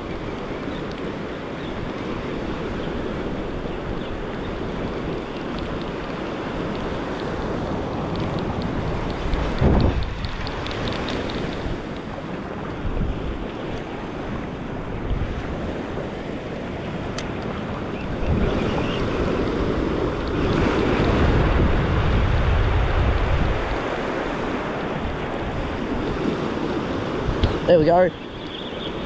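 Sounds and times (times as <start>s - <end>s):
surf washing up beach: 0.0s - 29.0s
wind buffeting microphone: 0.0s - 29.0s.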